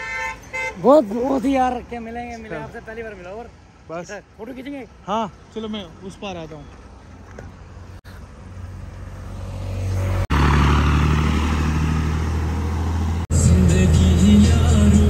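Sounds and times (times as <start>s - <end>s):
truck diesel engines droning: 0.0s - 15.0s.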